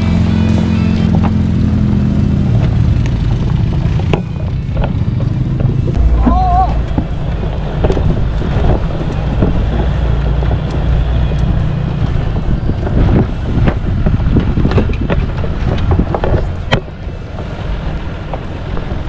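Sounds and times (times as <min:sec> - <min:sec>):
engine and tyres rumbling: 0:00.0 - 0:19.0
wind buffeting microphone: 0:02.7 - 0:19.0.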